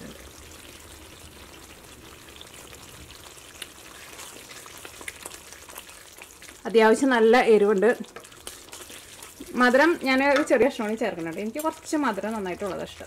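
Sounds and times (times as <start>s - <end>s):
curry simmering and bubbling: 0.0s - 13.0s.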